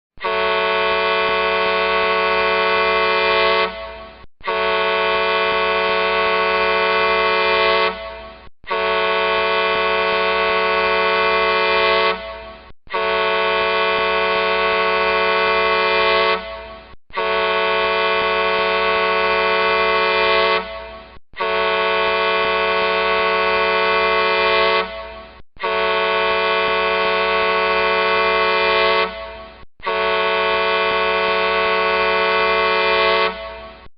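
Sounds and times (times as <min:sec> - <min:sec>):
truck horn blasts: 0:00.2 - 0:33.9.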